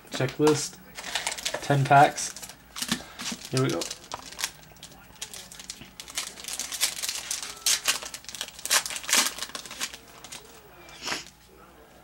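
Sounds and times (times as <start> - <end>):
wrappers crinkling and tearing: 0.1 - 10.6.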